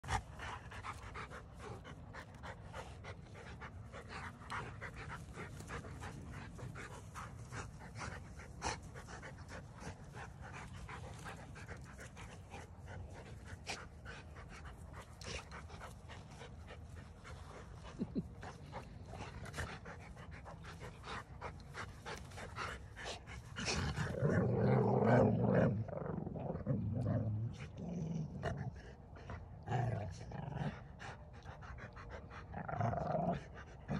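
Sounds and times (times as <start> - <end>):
dogs grumbling: 0.0 - 31.5, 32.1 - 33.9.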